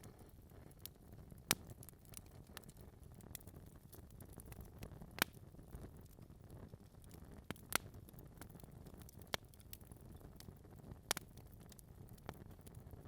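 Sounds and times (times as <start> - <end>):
low rumble of fire: 0.0 - 13.0
wood pops and crackles: 0.0 - 13.0.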